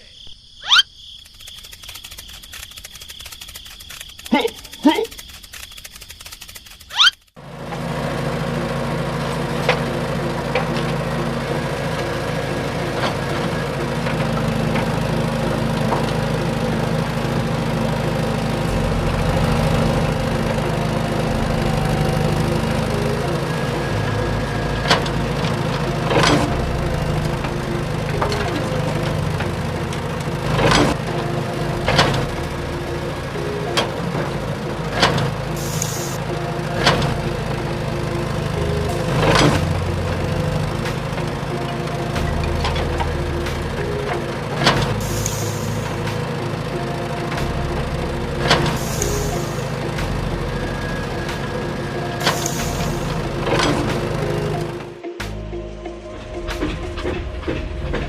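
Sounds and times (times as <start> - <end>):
small engine running: 1.2 - 55.2.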